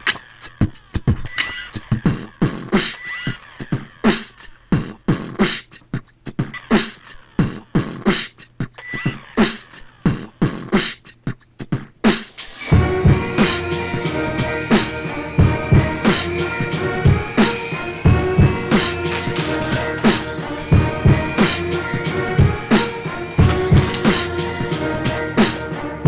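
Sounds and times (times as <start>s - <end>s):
beatboxing: 0.0s - 26.0s.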